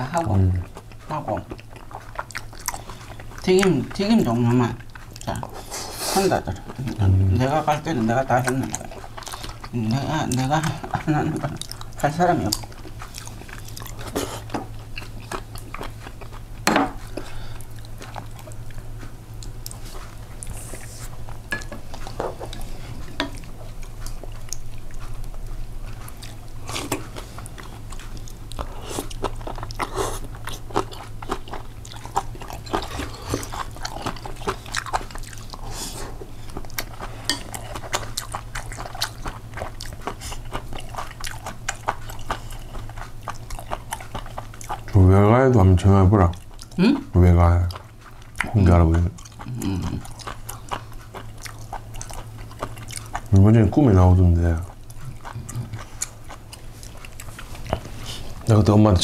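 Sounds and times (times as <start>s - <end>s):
crunchy chewing and biting: 0.0s - 59.0s
steady low hum: 0.0s - 59.0s.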